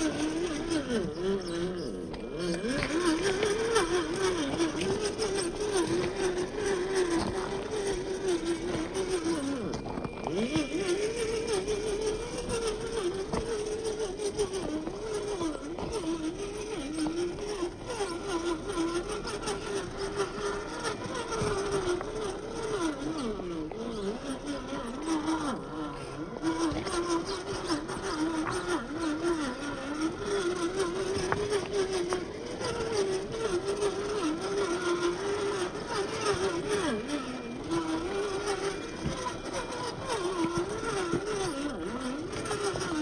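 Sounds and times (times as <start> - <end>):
electric motor and gearbox whining: 0.0 - 43.0
stones crunching under tyres: 0.0 - 43.0.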